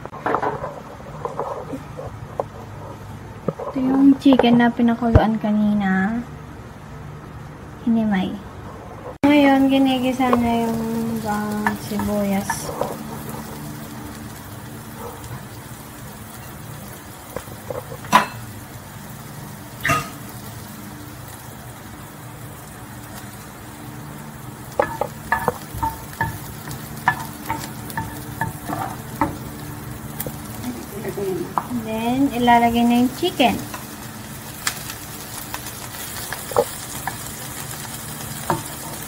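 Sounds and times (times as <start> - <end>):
garlic and onion sizzling: 0.0 - 39.0.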